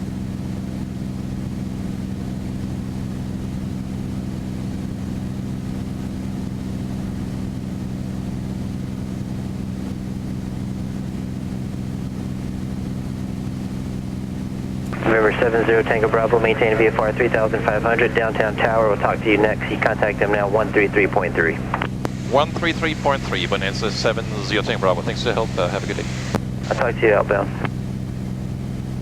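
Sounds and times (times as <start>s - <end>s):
propeller plane engine drone: 0.0s - 29.0s.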